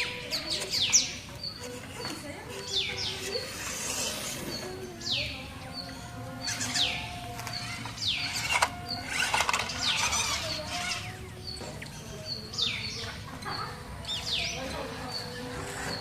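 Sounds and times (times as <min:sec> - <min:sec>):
bird calling with falling chirps: 0:00.0 - 0:16.0.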